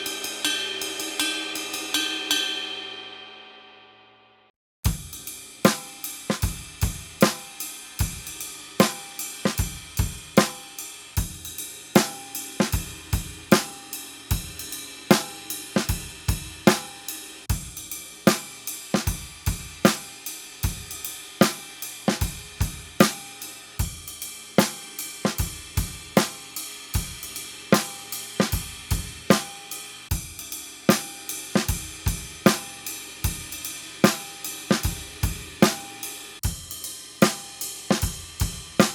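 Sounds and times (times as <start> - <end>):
drum kit groove: 0.0 - 3.2, 4.9 - 38.9.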